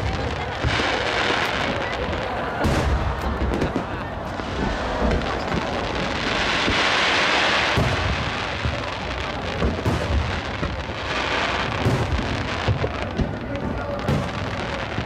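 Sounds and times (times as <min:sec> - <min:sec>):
fireworks booming: 0:00.0 - 0:15.0
fireworks crackling hiss: 0:00.0 - 0:15.0
fireworks sharp cracks: 0:00.0 - 0:15.0.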